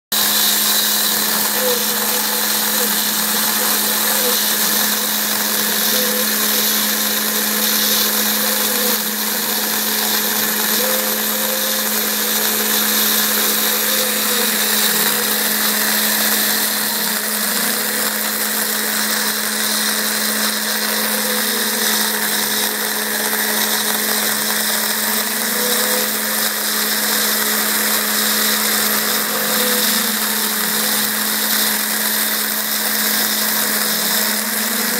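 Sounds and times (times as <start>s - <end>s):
machine axes whining: 0.1s - 34.9s
router spindle humming: 0.1s - 34.9s.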